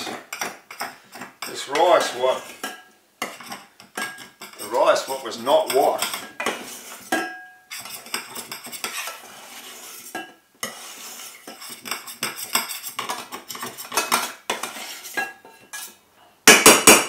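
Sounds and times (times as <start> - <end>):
metal utensil scraping pot: 0.0 - 16.0.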